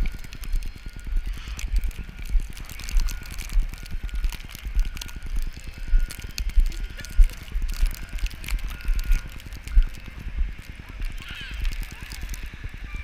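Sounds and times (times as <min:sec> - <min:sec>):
crackles: 0:00.0 - 0:13.0
faint street noise: 0:00.0 - 0:13.0
wind buffeting microphone: 0:00.0 - 0:13.0.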